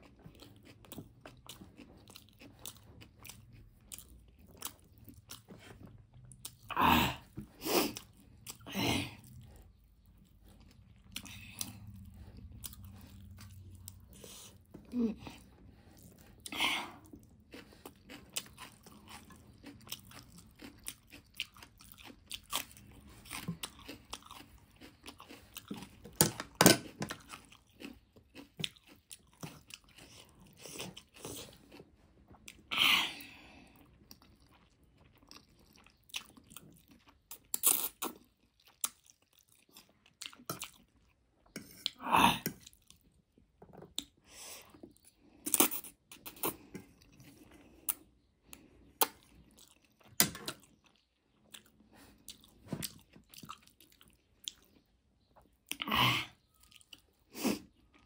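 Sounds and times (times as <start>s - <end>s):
wet chewing and smacking: 0.0s - 32.7s, 33.7s - 58.0s.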